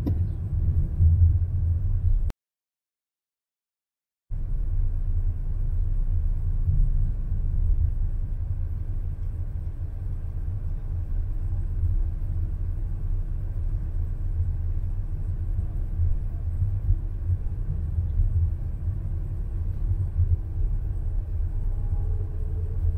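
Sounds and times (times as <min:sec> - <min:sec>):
car engine rumble: 0:00.0 - 0:02.3, 0:04.3 - 0:22.9
road noise: 0:00.0 - 0:02.3, 0:04.3 - 0:22.9.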